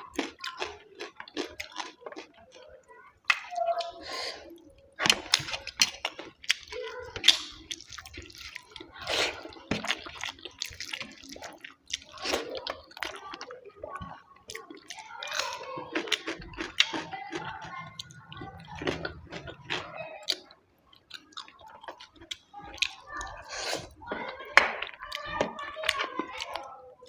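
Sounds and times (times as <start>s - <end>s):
wet chewing and lip smacking: 0.0s - 2.6s, 3.2s - 24.0s.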